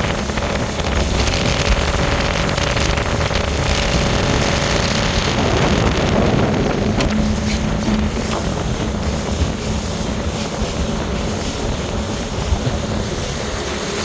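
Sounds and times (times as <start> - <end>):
motor boat engine: 0.0 - 14.0
water rushing past hull: 0.0 - 14.0
wind noise on microphone: 0.0 - 14.0.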